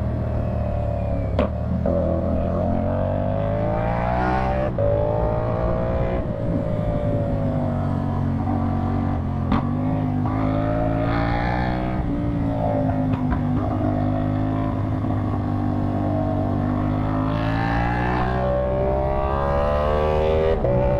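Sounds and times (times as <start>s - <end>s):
motorcycle engine accelerating: 0.0s - 20.9s.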